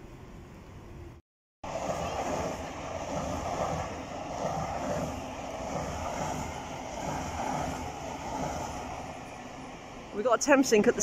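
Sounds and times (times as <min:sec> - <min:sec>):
train rumbling past: 0:00.9 - 0:11.0.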